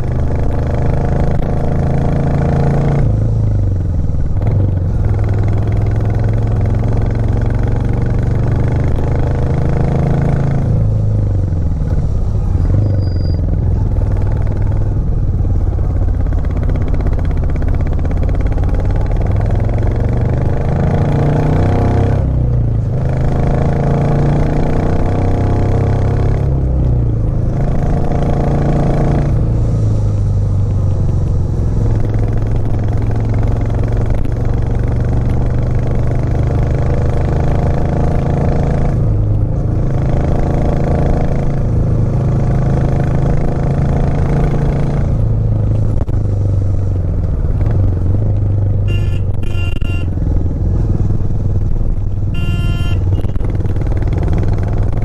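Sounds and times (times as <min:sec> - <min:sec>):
motorcycle engine pulling uphill: 0:00.0 - 0:55.0.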